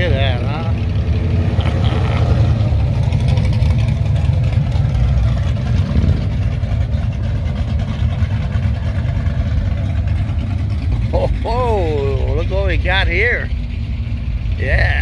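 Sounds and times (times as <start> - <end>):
car engines rumbling past slowly: 0.0 - 15.0.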